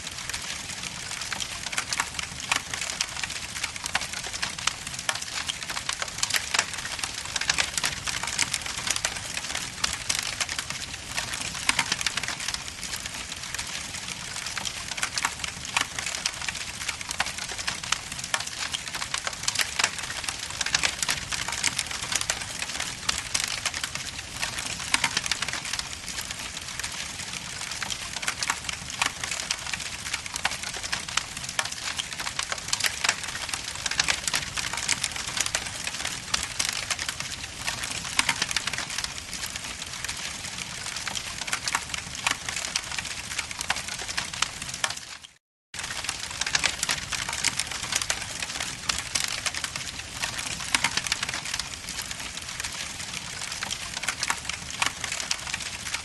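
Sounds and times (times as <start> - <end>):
logs crackling in fireplace: 0.0 - 56.0.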